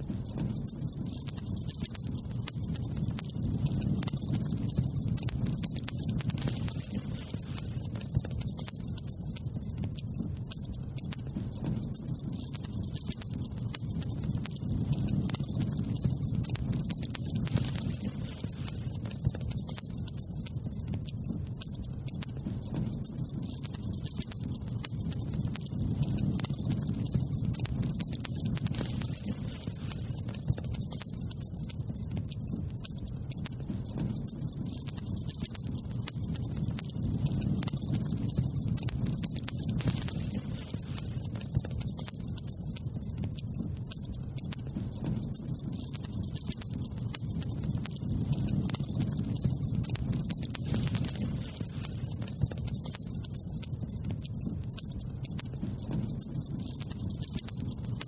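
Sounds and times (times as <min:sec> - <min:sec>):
fire low rumble: 0:00.0 - 0:58.0
wood crackling and popping: 0:00.0 - 0:58.0.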